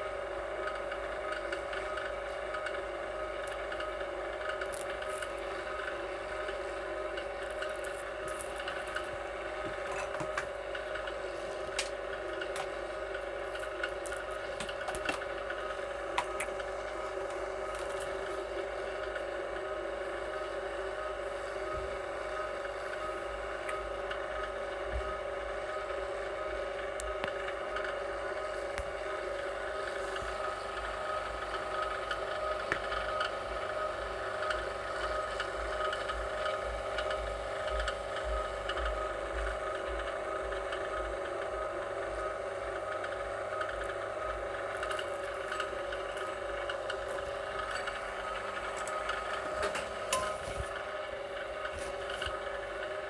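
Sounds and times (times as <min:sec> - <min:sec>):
machine motor humming: 0:00.0 - 0:53.0.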